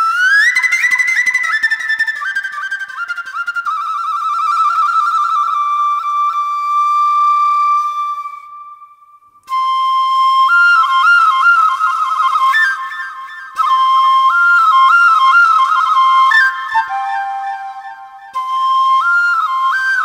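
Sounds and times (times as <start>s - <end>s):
bamboo flute melody with trills: 0.0s - 20.0s.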